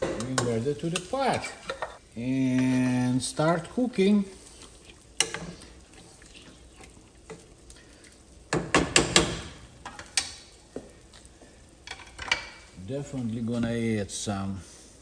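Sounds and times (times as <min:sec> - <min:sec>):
wooden spoon stirring in metal pot: 0:00.0 - 0:13.9
faint hiss: 0:00.1 - 0:15.0.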